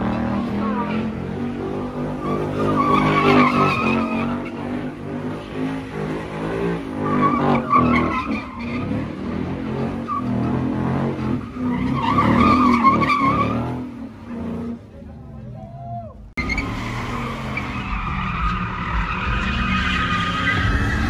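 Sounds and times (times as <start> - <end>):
car engine revving: 0.0 - 15.2, 16.4 - 21.0
tyres squealing on pavement: 0.1 - 14.7, 15.6 - 21.0.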